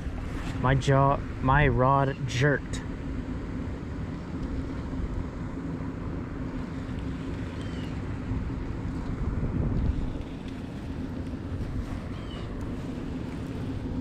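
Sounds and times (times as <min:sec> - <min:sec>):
wind rumbling on microphone: 0:00.0 - 0:01.8, 0:02.8 - 0:14.0
steady low hum: 0:00.0 - 0:14.0.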